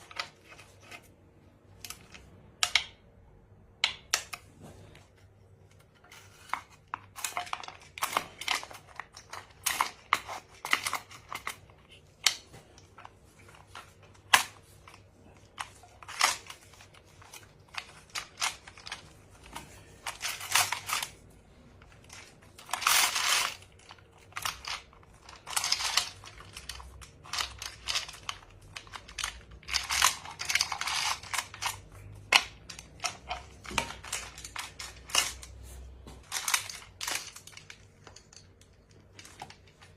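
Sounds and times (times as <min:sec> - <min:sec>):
metal parts scraping and rattling: 0:05.7 - 0:39.9.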